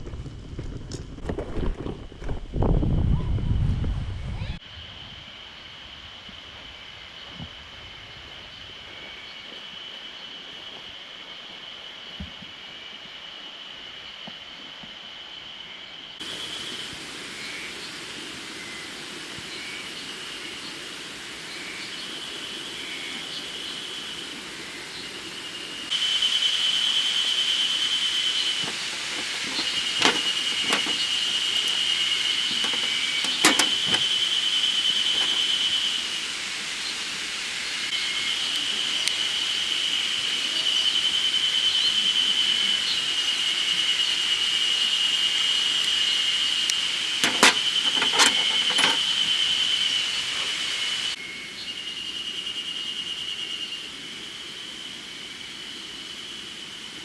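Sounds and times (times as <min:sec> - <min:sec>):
cicadas singing: 0:04.5 - 0:57.0.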